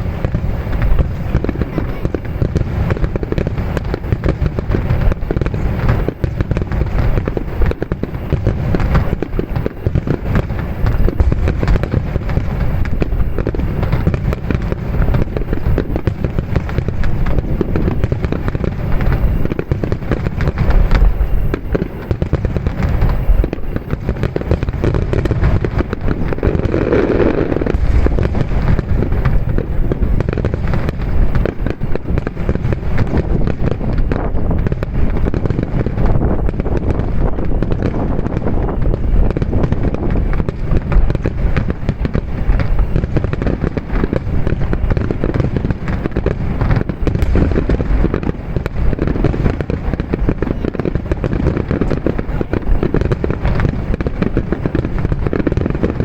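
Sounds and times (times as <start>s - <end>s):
fireworks booms and cracks: 0.0s - 56.0s.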